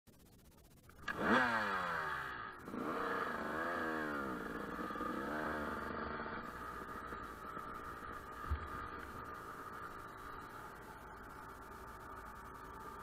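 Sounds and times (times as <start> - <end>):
dirt bike engine revving: 1.0 - 13.0.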